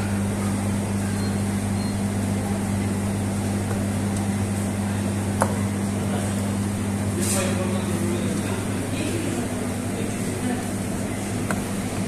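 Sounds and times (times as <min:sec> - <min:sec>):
electrical hum of machinery: 0:00.0 - 0:12.0.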